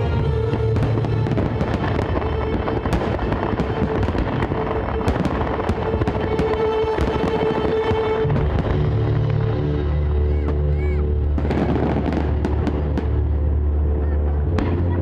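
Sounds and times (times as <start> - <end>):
fireworks bangs and crackles: 0.0 - 15.0
show music soundtrack: 0.0 - 15.0.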